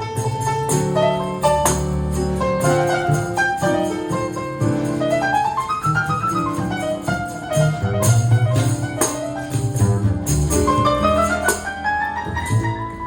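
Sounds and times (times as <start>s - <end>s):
bass line: 0.6s - 13.0s.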